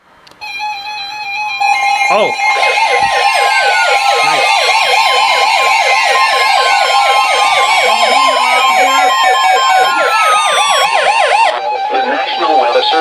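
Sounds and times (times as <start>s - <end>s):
slow falling alarm sweeps: 0.4s - 13.0s
steady warning tone: 0.4s - 13.0s
warbling alarm: 0.4s - 13.0s.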